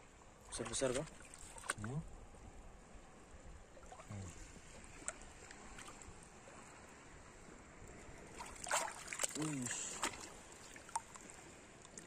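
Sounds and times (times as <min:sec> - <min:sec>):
seawater sloshing: 0:00.5 - 0:02.0, 0:03.7 - 0:12.0.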